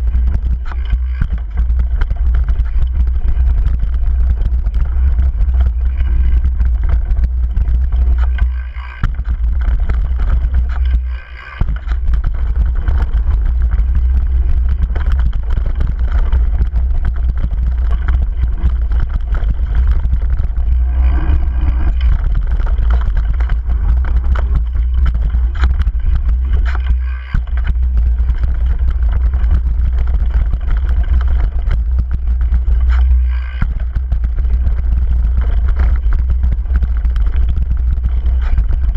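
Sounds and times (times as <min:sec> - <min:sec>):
bike rattling: 0:00.0 - 0:38.9
bike tyres rumbling on dirt: 0:00.0 - 0:38.9
wind rush on microphone: 0:00.0 - 0:38.9.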